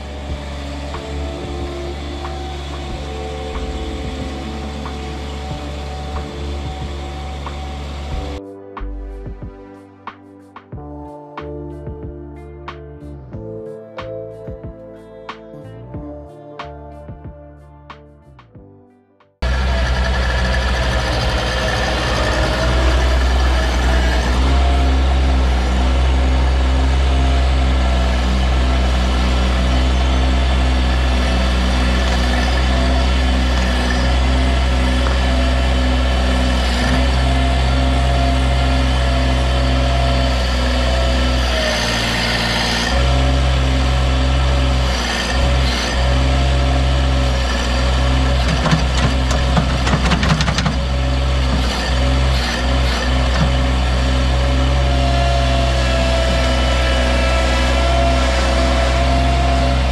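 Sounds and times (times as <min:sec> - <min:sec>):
diesel engine running: 0:00.0 - 0:08.4, 0:19.4 - 0:59.9
hydraulic whine: 0:00.0 - 0:08.4, 0:19.4 - 0:59.9.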